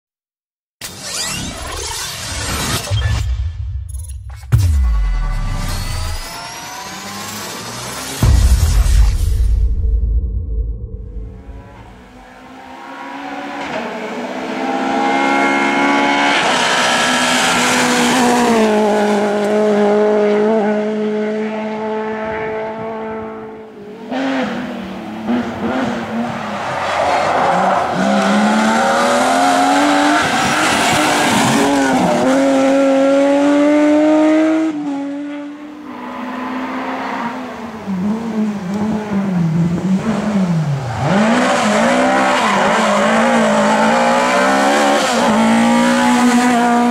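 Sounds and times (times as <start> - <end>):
rally car engines revving: 5.4 - 8.8, 11.4 - 46.9.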